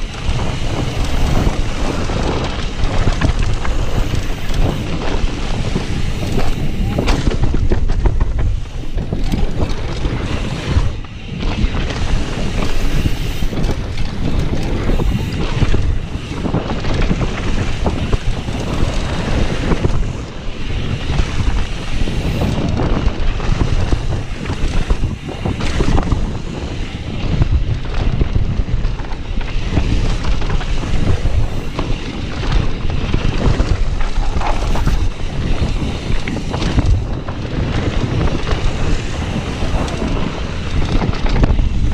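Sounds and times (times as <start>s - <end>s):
bike rattling and knocking: 0.0s - 41.9s
bike tyres rolling on dirt: 0.0s - 41.9s
wind buffeting microphone: 0.0s - 41.9s.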